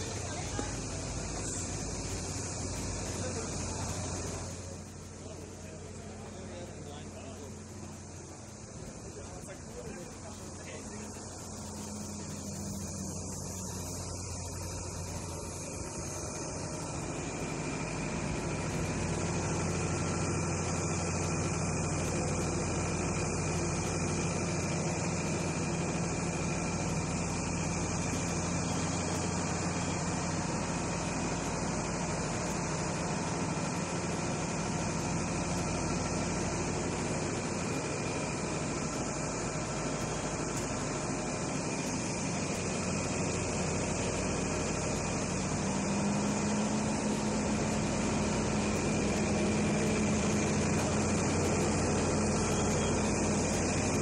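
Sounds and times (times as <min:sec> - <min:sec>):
constant hiss: 0:00.0 - 0:54.0
locomotive low hum: 0:00.0 - 0:54.0.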